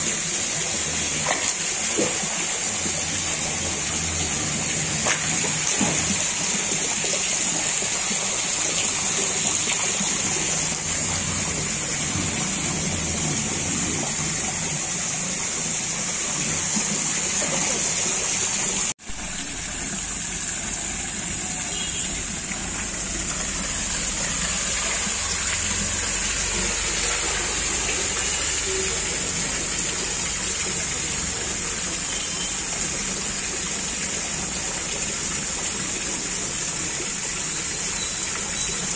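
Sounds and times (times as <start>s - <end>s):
flowing water in fish tank: 0.0s - 38.9s.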